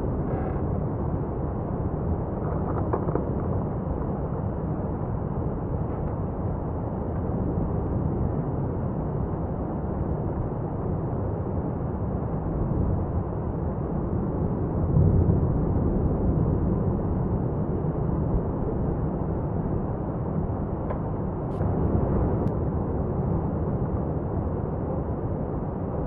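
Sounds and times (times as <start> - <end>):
volcano low rumble: 0.0 - 26.0.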